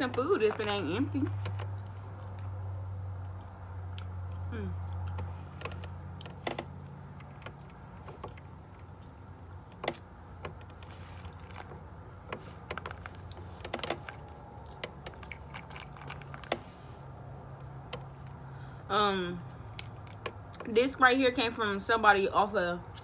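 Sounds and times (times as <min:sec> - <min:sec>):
fingers picking through seafood: 0:00.0 - 0:18.5
steady low hum: 0:00.0 - 0:23.0.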